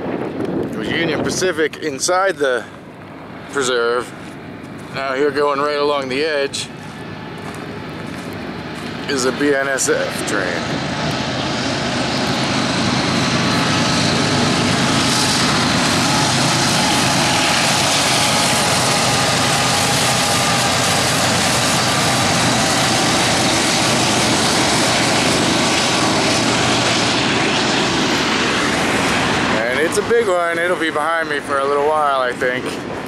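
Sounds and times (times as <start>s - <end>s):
diesel locomotives passing: 0.8s - 33.0s.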